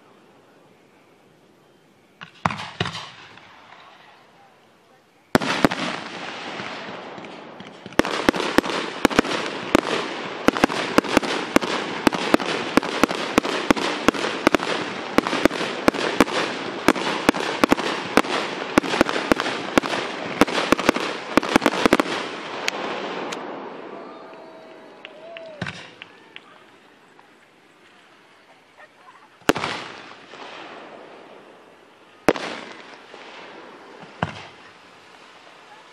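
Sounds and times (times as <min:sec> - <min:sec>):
fireworks crackling hiss: 0:00.0 - 0:35.9
fireworks bangs: 0:02.2 - 0:04.4, 0:05.3 - 0:28.0, 0:29.4 - 0:35.9.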